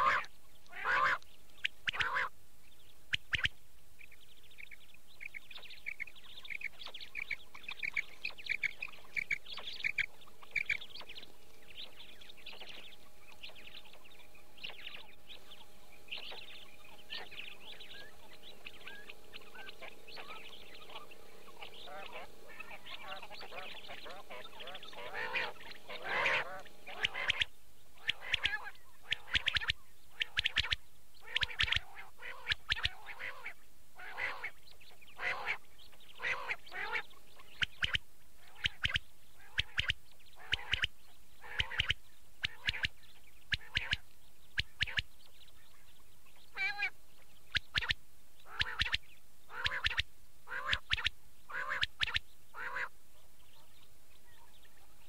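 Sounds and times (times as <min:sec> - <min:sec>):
quail calling: 0:00.0 - 0:02.4, 0:03.1 - 0:55.0
background hiss: 0:00.0 - 0:55.0.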